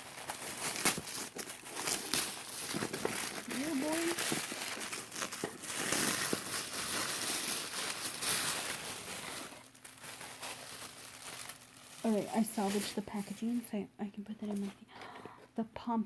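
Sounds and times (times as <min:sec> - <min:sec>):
gift wrapping paper crinkling and tearing: 0:00.0 - 0:13.7.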